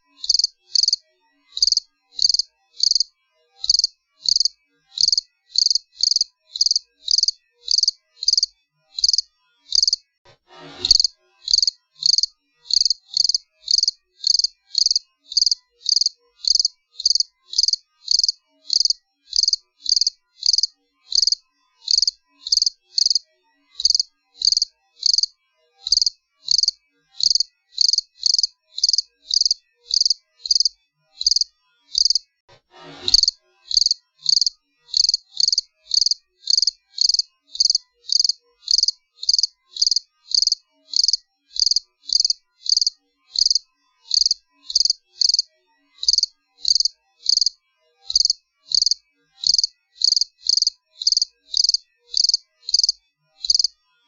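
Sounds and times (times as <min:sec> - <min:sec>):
cricket chirping: 0:00.2 - 0:01.0, 0:01.6 - 0:10.0, 0:10.9 - 0:23.2, 0:23.8 - 0:25.3, 0:25.9 - 0:32.2, 0:33.2 - 0:53.7.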